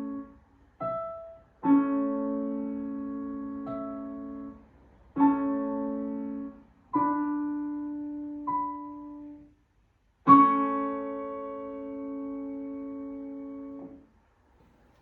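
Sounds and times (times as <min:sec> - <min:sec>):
piano chords ringing: 0:00.0 - 0:04.6, 0:05.2 - 0:09.5, 0:10.3 - 0:14.0.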